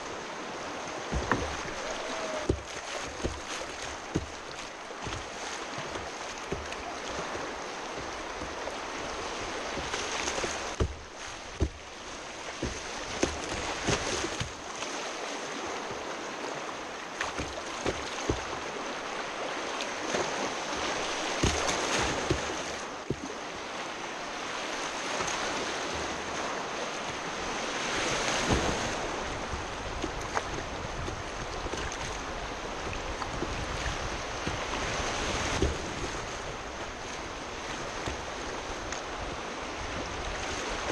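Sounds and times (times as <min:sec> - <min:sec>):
river rapids rushing: 0:00.0 - 0:40.9
sharp water splashes and knocks: 0:00.0 - 0:40.9.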